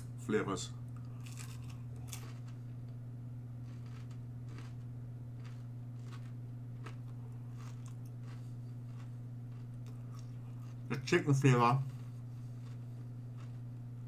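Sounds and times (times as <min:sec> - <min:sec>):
steady low hum: 0:00.0 - 0:14.0
person chewing crunchy food: 0:00.9 - 0:03.0, 0:03.6 - 0:11.1, 0:11.8 - 0:14.0.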